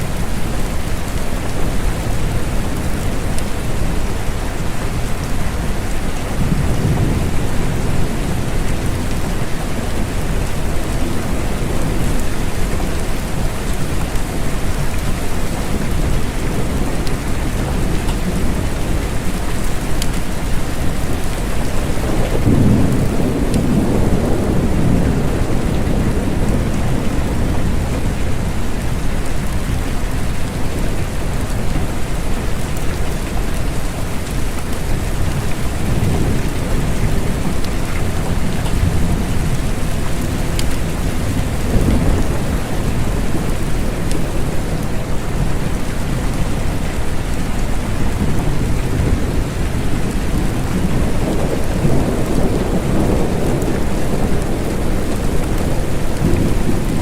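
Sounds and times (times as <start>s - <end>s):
steady rain falling: 0.0s - 57.0s
rolling thunder rumble: 6.3s - 30.8s, 35.2s - 57.0s.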